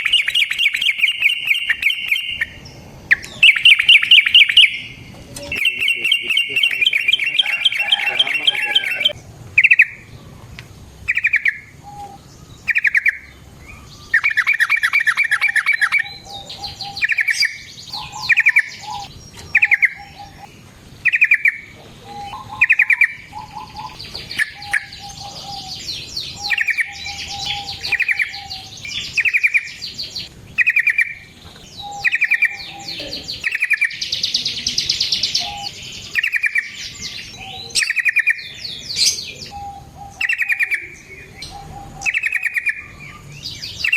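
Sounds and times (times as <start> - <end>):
bird chattering calls: 0.0 - 10.4, 11.0 - 43.9
rapid bird trill: 0.0 - 43.9.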